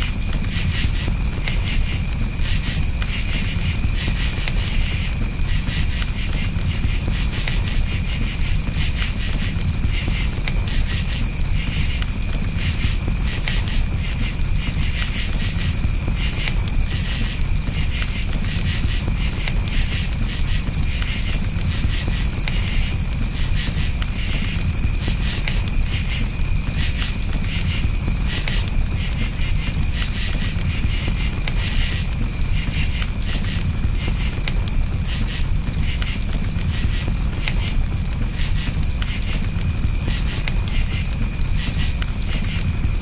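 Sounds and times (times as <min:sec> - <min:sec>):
campfire crackling and popping: 0:00.0 - 0:43.0
crickets chirping: 0:00.0 - 0:43.0.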